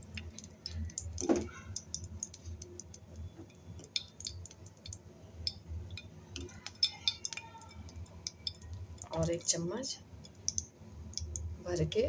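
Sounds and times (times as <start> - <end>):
ghee crackling in frying pan: 0.0 - 12.0.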